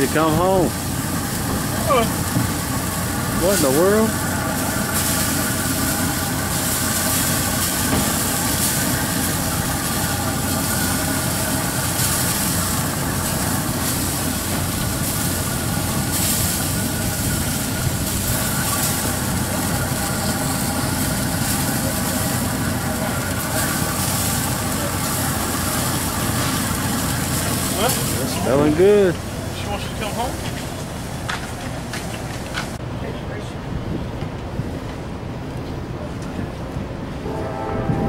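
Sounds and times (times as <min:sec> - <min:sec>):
freight train passing: 0:00.0 - 0:38.0.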